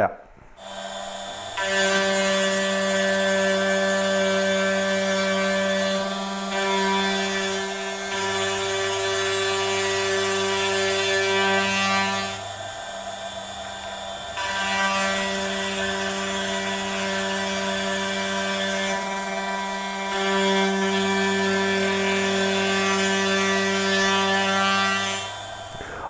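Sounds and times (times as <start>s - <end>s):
router spindle whining: 0.6s - 17.6s, 20.9s - 26.0s.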